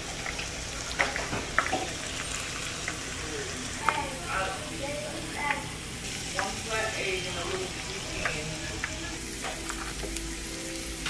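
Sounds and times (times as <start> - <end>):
tortilla sizzling in hot oil: 0.0 - 11.0.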